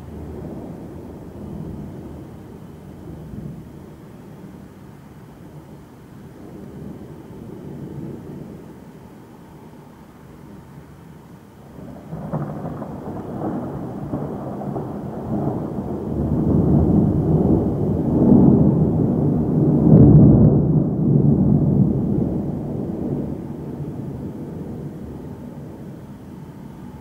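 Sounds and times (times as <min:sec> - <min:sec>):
thunder rolling: 0:00.0 - 0:04.6, 0:06.2 - 0:08.8, 0:11.7 - 0:27.0.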